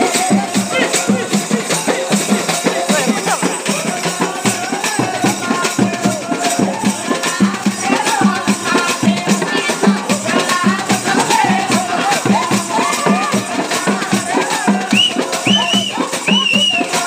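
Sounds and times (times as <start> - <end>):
frame drums beating: 0.0 - 17.0
rattling percussion: 0.0 - 17.0.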